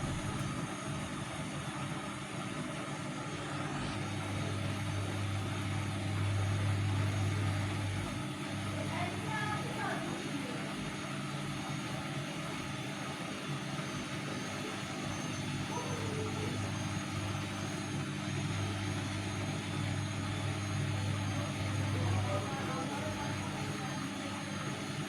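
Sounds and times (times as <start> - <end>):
washing machine motor humming: 0.0 - 25.0.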